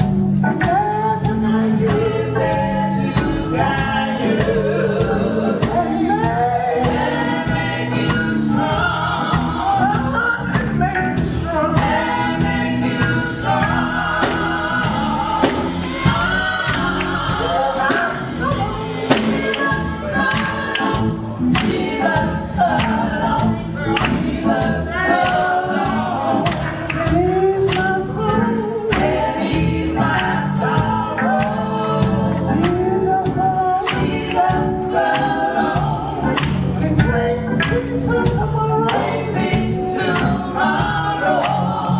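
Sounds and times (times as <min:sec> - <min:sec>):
band with steady beat: 0:00.0 - 0:41.9
women singing in close harmony: 0:01.2 - 0:41.9.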